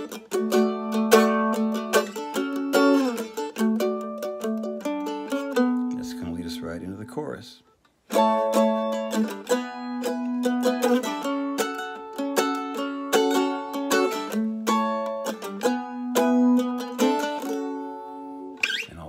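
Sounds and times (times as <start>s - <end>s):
mandolin chords strummed with a pick: 0.0s - 6.6s, 8.0s - 18.8s.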